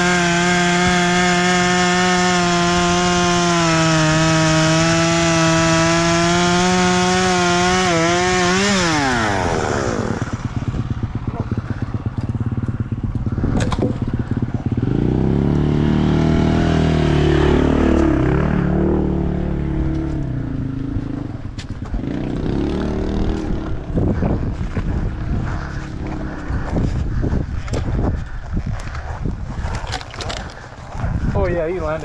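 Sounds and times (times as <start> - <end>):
dirt bike engine revving: 0.0 - 27.2.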